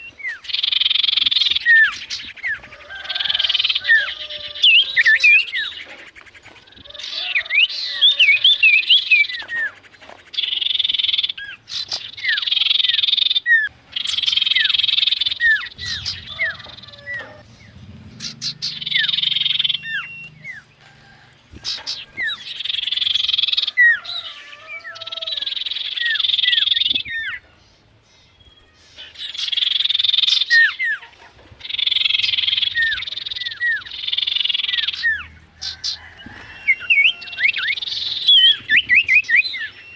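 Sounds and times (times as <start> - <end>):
bird whistles and buzzing trills: 0.0 - 24.0, 31.6 - 39.9.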